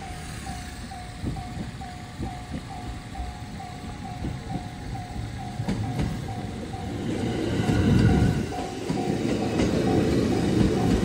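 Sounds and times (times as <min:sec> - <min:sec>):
crossing warning bell ringing: 0:00.0 - 0:11.0
train rumble and wheel clacks: 0:00.0 - 0:11.0.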